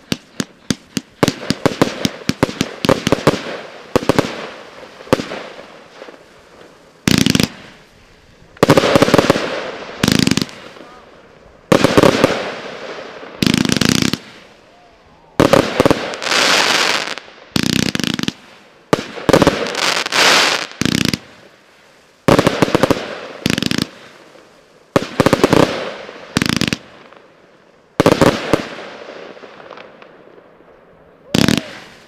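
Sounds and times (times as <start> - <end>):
fireworks bangs: 0.0 - 21.6, 22.2 - 27.3, 28.0 - 30.6, 31.2 - 32.0
fireworks hiss: 0.0 - 30.1, 31.3 - 32.0.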